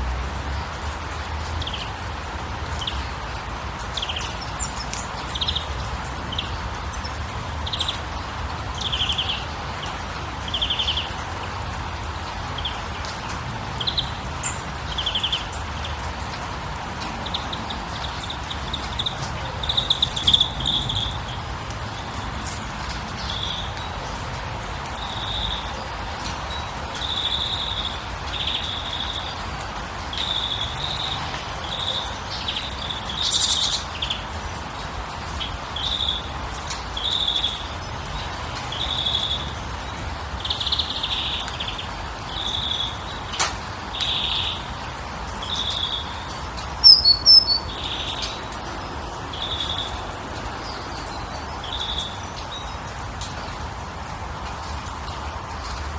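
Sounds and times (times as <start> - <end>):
hiss of water or rain: 0.0 - 55.9
songbirds chirping: 0.0 - 55.9.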